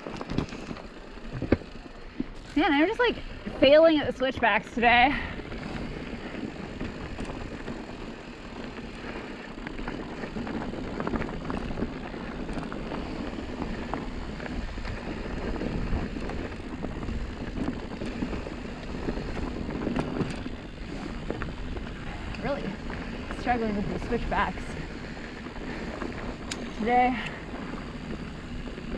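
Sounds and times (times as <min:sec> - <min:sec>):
bike clicks and rattles: 0:00.0 - 0:28.9
bike tyres rolling on dirt: 0:00.0 - 0:28.9.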